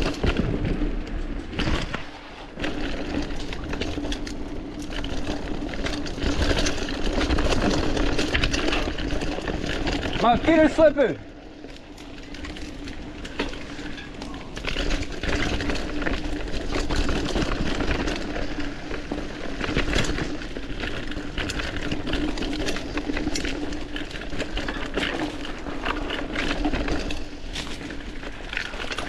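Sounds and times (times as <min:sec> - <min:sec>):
bike rattling: 0:00.0 - 0:29.0
bike tyres through mud: 0:00.0 - 0:29.0.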